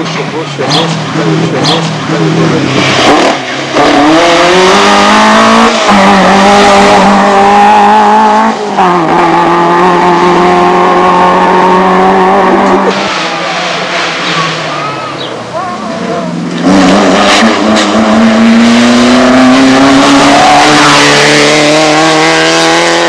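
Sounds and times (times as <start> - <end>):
rally car engine accelerating: 0.0 - 23.0.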